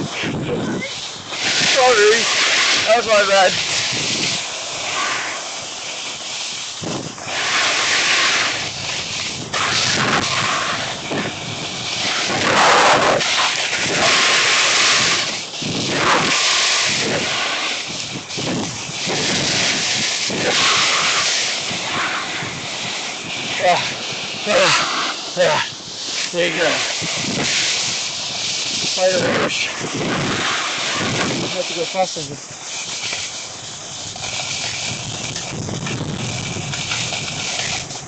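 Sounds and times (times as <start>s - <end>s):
snowboard scraping over snow: 0.0s - 38.0s
wind rushing over microphone: 0.0s - 38.0s.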